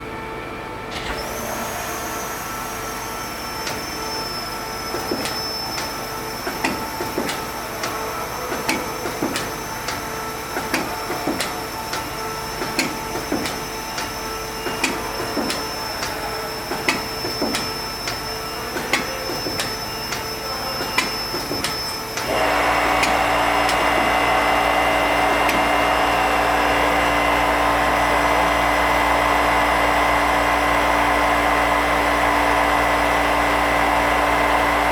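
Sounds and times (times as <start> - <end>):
loud whirring with low hum: 0.0 - 34.9
lathe high whine: 0.2 - 34.9.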